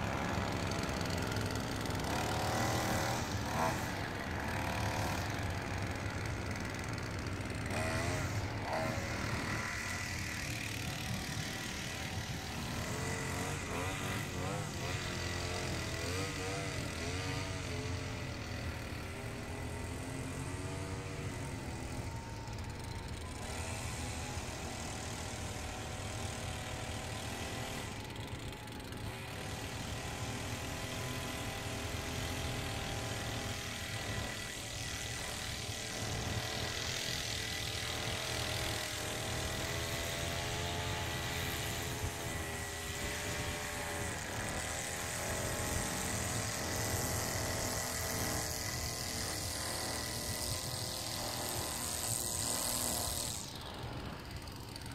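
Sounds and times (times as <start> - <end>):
distant lawn trimmer engine: 0.0 - 54.9.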